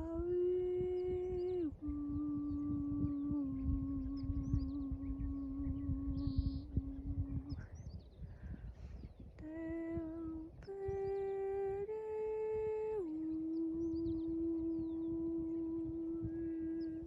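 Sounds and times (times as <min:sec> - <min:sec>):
person humming: 0:00.0 - 0:07.6, 0:09.4 - 0:17.0
faint bird chirps: 0:00.0 - 0:17.0
low rumble: 0:00.0 - 0:17.0.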